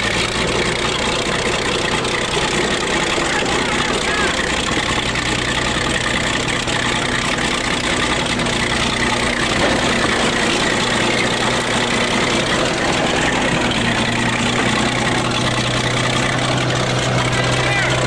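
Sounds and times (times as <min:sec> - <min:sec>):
bulldozer diesel engine running: 0:00.0 - 0:18.0
car being crushed: 0:02.2 - 0:18.0.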